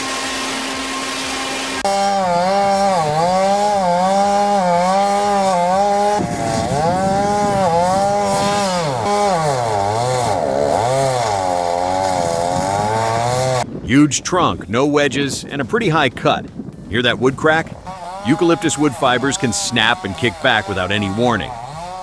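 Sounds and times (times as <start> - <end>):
chainsaw cutting wood: 0.0 - 13.8, 16.7 - 22.0.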